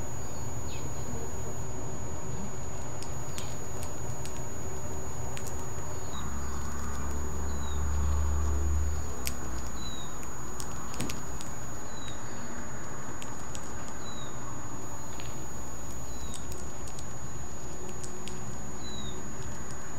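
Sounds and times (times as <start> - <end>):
parrot cracking seeds: 2.5 - 19.9.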